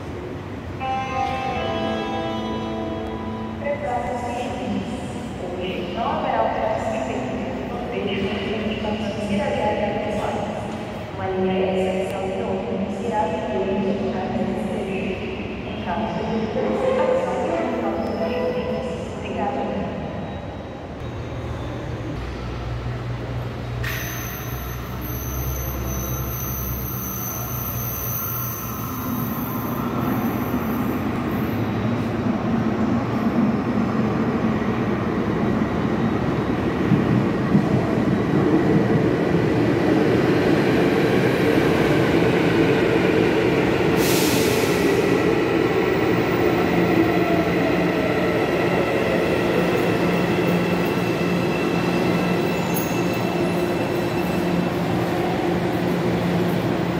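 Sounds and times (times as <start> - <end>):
metro train arriving: 0.0 - 56.9.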